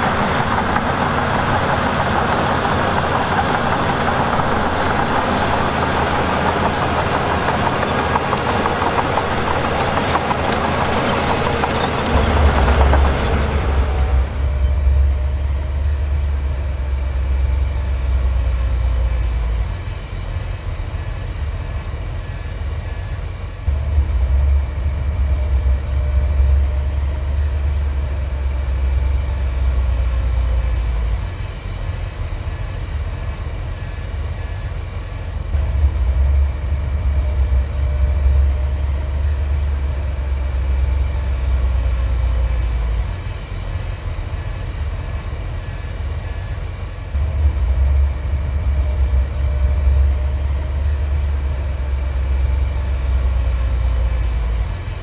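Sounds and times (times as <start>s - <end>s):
diesel machinery rumbling: 0.0s - 55.0s.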